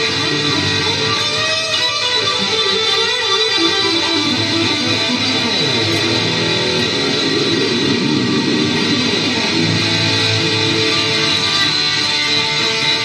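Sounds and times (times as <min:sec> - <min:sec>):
loud electric guitar riffs: 0:00.0 - 0:13.0.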